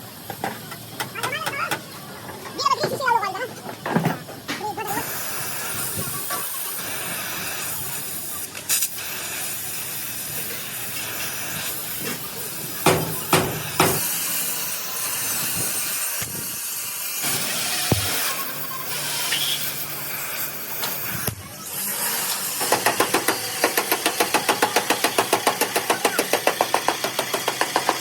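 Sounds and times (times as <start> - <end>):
steady workshop hiss: 0.0 - 28.0.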